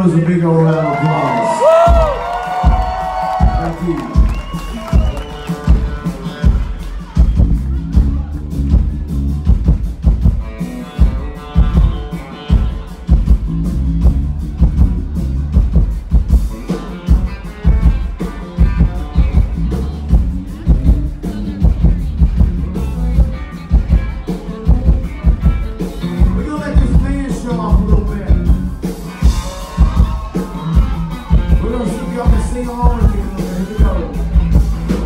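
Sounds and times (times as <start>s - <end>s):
live band playing loudly: 0.0s - 35.0s
electric guitar: 0.7s - 35.0s
drum kit: 1.5s - 35.0s.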